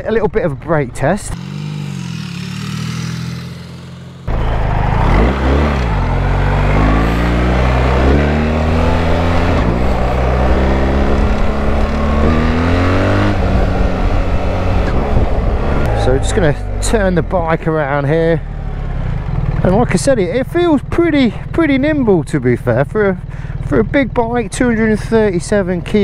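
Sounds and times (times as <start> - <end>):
wind and road noise: 0.0 - 26.0
motorcycle engine accelerating: 1.3 - 26.0.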